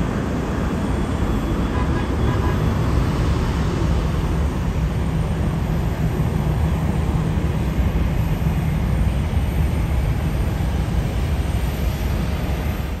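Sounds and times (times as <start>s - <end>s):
jet engines deep rumble: 0.0s - 13.0s.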